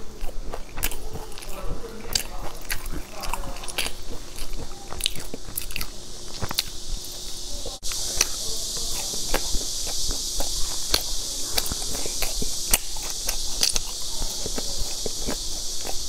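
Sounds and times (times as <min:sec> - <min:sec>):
crunchy chewing: 0:00.0 - 0:16.0
steady hiss: 0:00.0 - 0:16.0.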